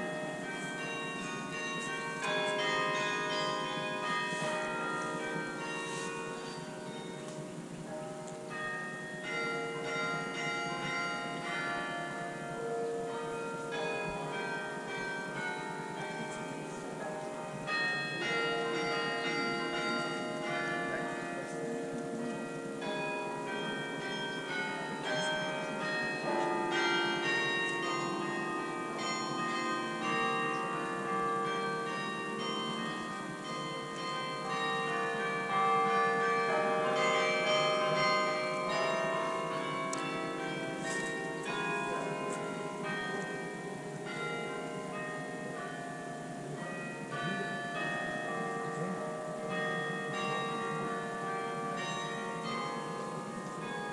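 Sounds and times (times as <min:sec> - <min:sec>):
carillon bells playing melody: 0:00.0 - 0:53.9.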